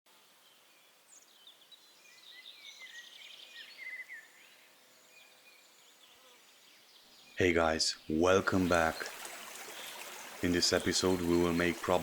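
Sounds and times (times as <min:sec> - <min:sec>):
birds singing faintly: 0:00.1 - 0:12.0.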